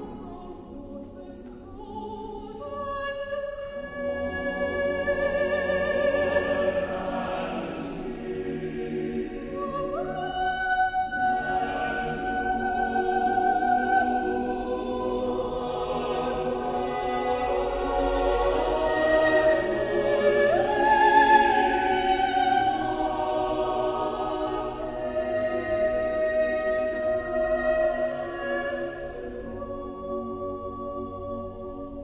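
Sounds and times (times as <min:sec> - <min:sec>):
choir singing unaccompanied: 0:00.0 - 0:32.0.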